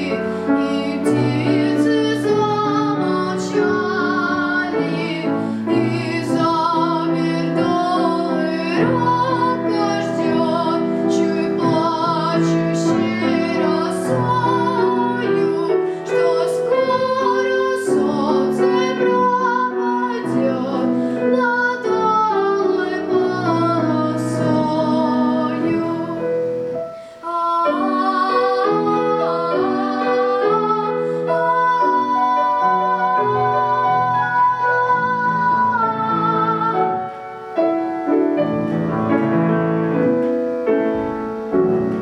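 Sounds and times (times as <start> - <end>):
high voice singing with vibrato: 0.0 - 37.6
piano accompaniment: 0.0 - 42.0.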